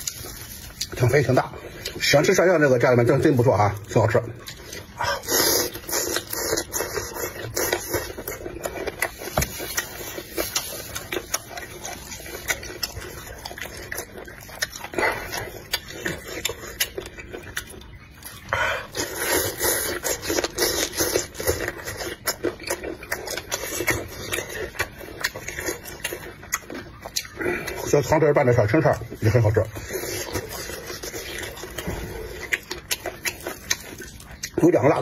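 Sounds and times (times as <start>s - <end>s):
wet chewing and slurping: 0.0s - 35.0s.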